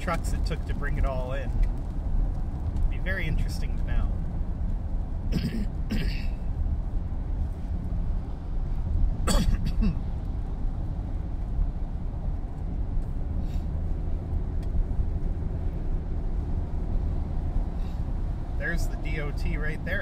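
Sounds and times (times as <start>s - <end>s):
car engine humming: 0.0s - 20.0s
tyres on wet road: 0.0s - 20.0s.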